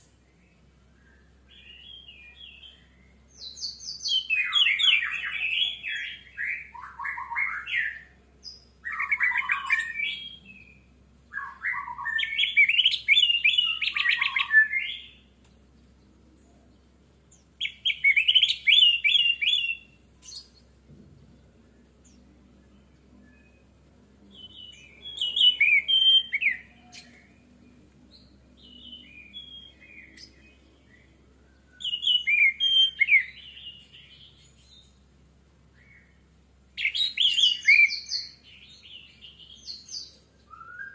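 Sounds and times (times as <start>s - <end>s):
thrush singing whistled notes: 0.0s - 15.3s, 17.3s - 20.6s, 22.6s - 34.9s, 35.7s - 40.9s.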